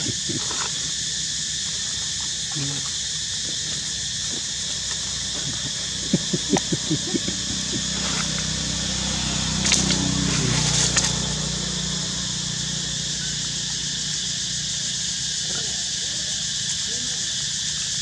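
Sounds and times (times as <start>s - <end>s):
insect drone: 0.0s - 18.0s.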